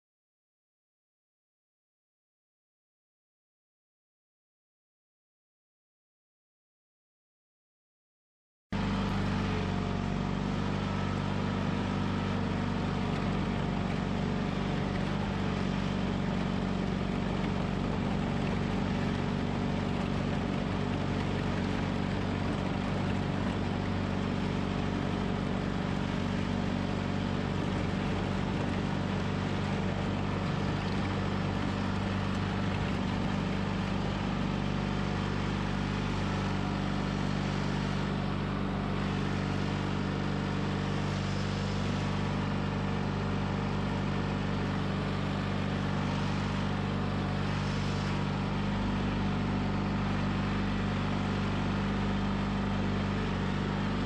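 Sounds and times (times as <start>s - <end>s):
garden tractor engine running: 8.8s - 54.0s.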